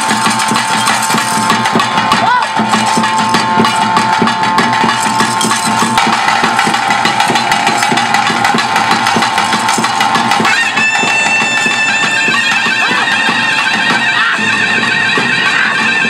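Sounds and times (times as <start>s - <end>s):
fast drumming: 0.0s - 16.0s
reed pipe high note: 0.3s - 16.0s.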